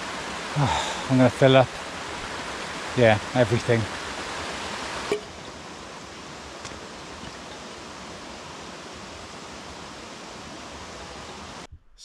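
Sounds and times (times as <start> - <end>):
running water rushing: 0.0 - 11.7.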